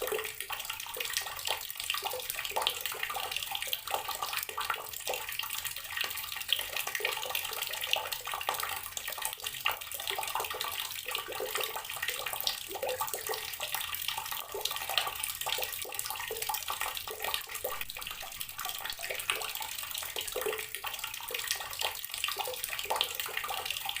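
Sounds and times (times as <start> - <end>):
water tap running and splashing: 0.0 - 24.0.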